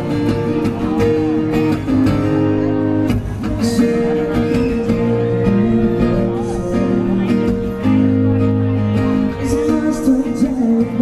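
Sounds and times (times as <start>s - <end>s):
live band with acoustic guitar: 0.0s - 11.0s.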